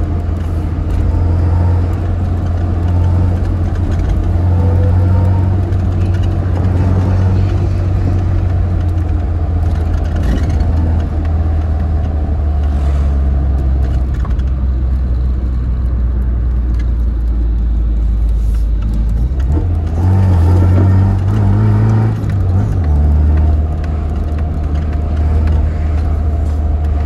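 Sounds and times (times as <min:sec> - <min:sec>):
car engine and exhaust drone: 0:00.0 - 0:27.0.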